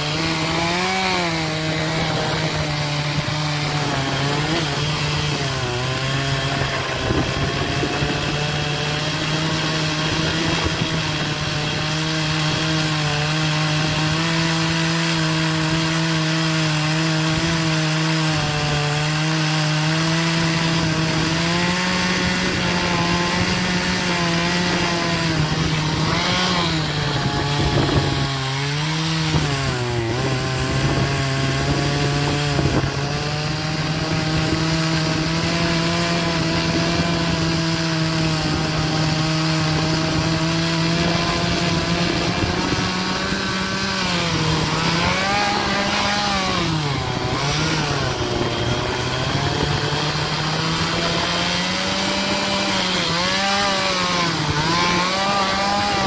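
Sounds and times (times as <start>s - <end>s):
chainsaw cutting at high revs: 0.0s - 56.0s.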